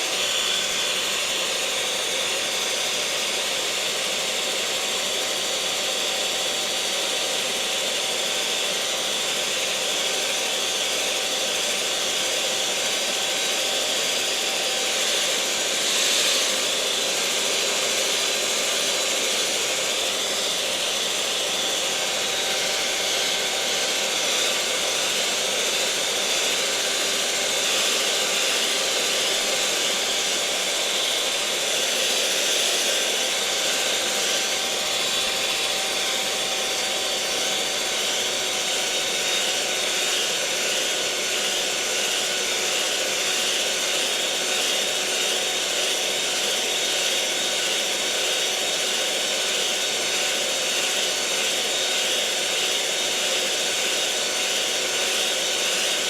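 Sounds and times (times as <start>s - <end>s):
electric mixer motor whirring: 0.0s - 56.0s.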